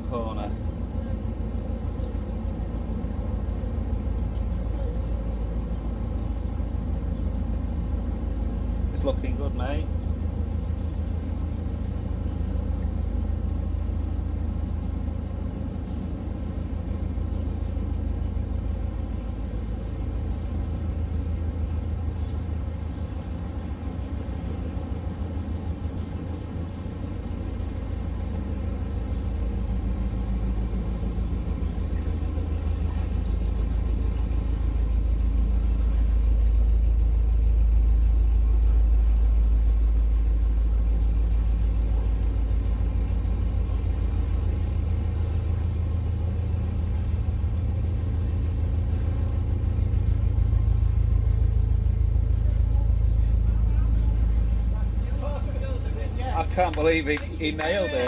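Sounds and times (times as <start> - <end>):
boat diesel engine rumbling: 0.0 - 58.0.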